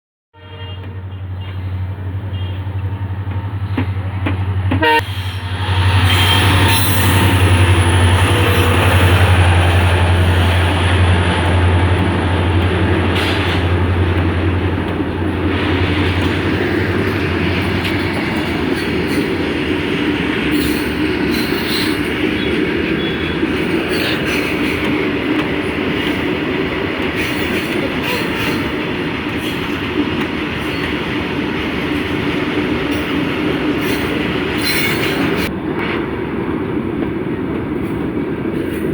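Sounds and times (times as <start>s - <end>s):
train passing: 0.7s - 38.9s.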